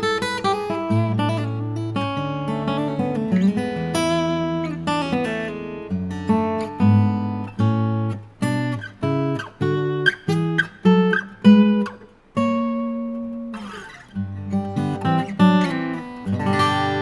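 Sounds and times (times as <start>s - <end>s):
acoustic guitar fingerstyle: 0.0s - 17.0s.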